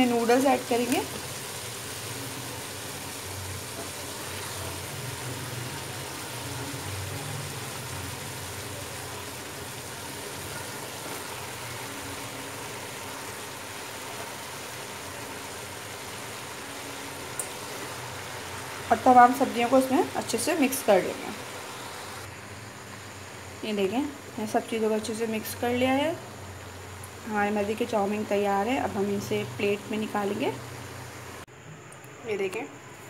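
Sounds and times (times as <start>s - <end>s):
stir-fry sizzling in pot: 0.0s - 31.5s.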